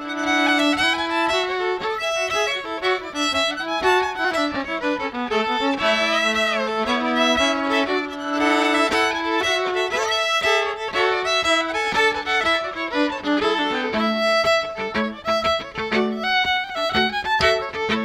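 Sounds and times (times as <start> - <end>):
two fiddles playing a tune: 0.0 - 18.0.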